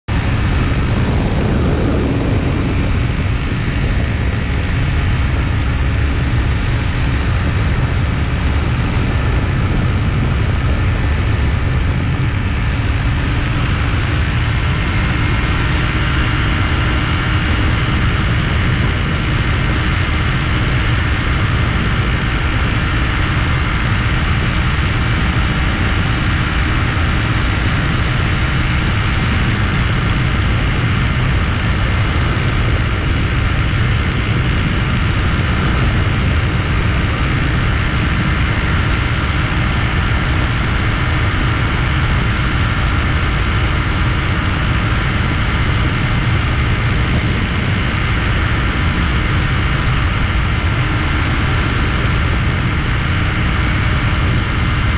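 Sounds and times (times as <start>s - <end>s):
aircraft engine and propeller drone: 0.0s - 54.9s
wind rush on microphone: 0.0s - 54.9s.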